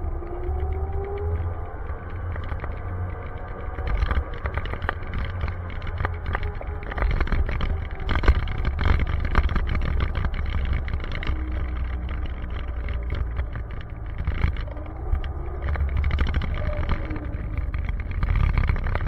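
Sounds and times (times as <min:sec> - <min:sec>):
gust crackles on mic: 0:00.0 - 0:19.0
road and vehicle noise: 0:00.0 - 0:19.0
wind buffeting microphone: 0:00.0 - 0:19.0.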